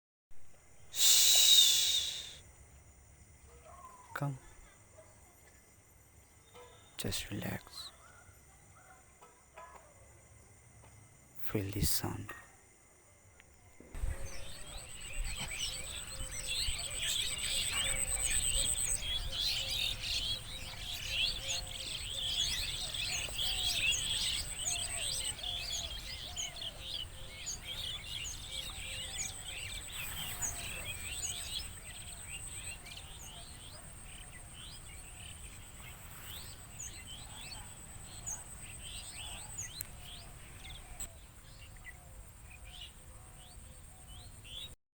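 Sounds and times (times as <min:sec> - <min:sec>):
small birds chirping: 0:00.8 - 0:12.5, 0:13.1 - 0:44.8.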